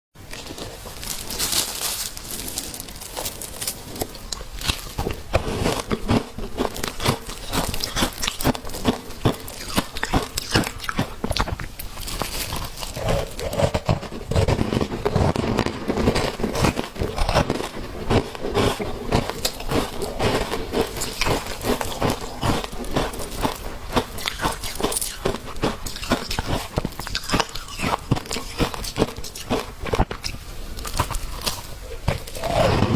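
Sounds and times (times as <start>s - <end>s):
ice being bitten and chewed: 0.3s - 32.9s.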